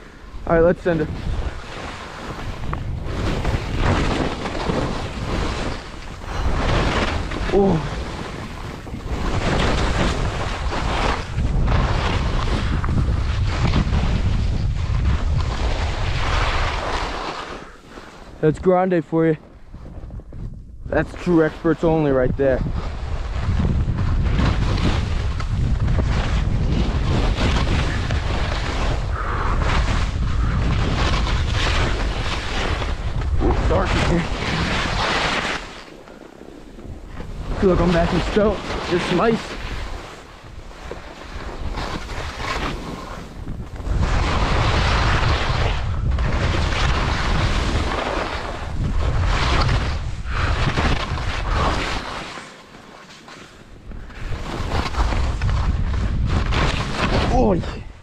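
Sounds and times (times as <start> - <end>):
wind buffeting microphone: 0.0 - 17.8, 19.3 - 52.1, 53.6 - 58.0
skis scraping through snow: 0.0 - 58.0.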